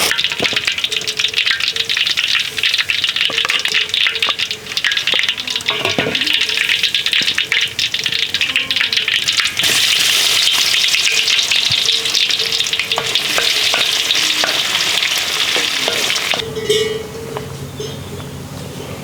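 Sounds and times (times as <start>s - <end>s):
food sizzling in a pan: 0.0s - 16.4s.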